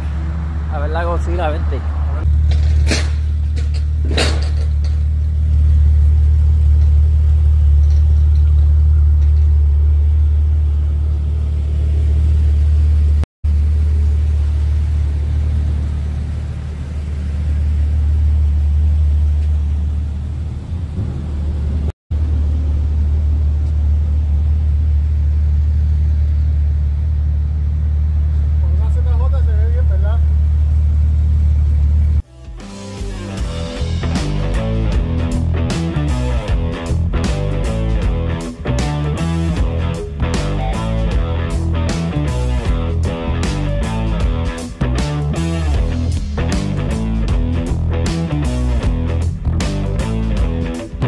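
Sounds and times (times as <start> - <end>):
car engine idling: 0.0 - 32.2, 33.2 - 51.0.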